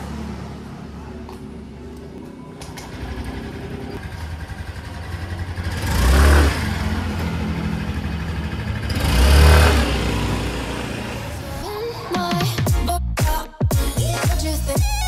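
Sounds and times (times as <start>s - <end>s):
scooter engine idling and revving: 0.0s - 15.0s.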